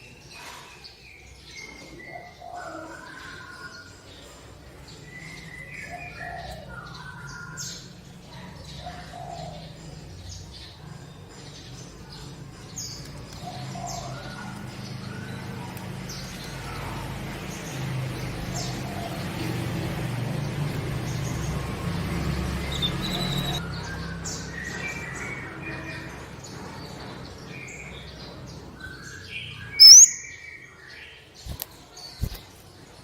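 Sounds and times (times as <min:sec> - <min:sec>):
small bird singing: 0:00.0 - 0:33.0.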